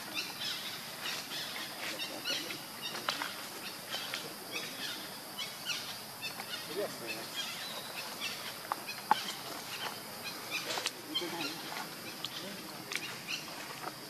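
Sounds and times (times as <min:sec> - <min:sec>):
bird chirps: 0:00.0 - 0:13.6
insect hum: 0:00.0 - 0:14.0.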